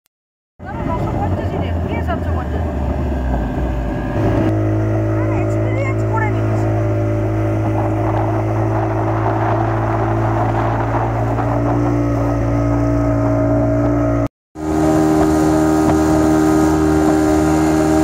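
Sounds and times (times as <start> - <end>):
speedboat engine running: 0.6 - 18.0
water and wind rushing: 0.6 - 18.0.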